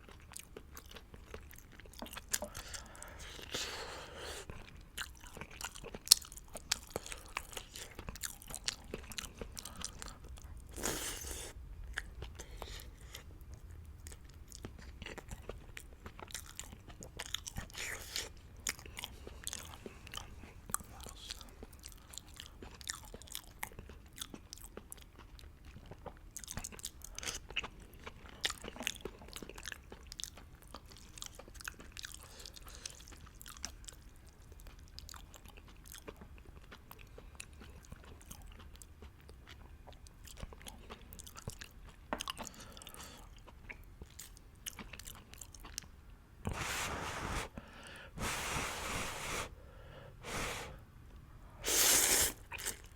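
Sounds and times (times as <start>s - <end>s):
wet chewing of noodles: 0.0s - 50.8s, 51.6s - 52.9s.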